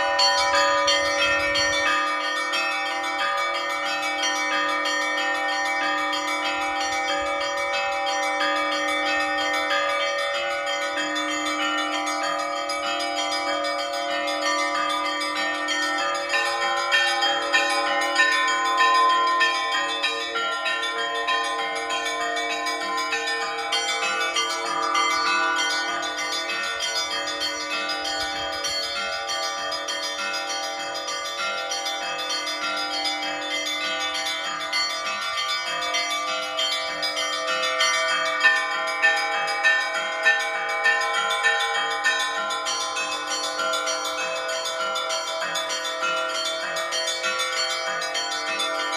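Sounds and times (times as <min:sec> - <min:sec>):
large bells sustained ringing: 0:00.0 - 0:48.9
small bells ringing quickly: 0:00.0 - 0:48.9.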